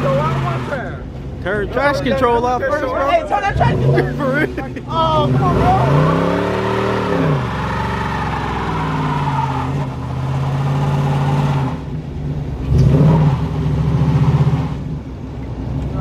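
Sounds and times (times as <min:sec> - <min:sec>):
car engine revving high: 0:00.0 - 0:01.0, 0:03.4 - 0:16.0.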